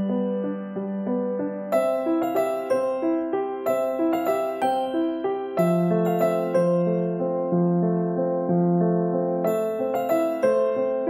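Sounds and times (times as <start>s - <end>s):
gentle keyboard melody: 0.0s - 11.0s.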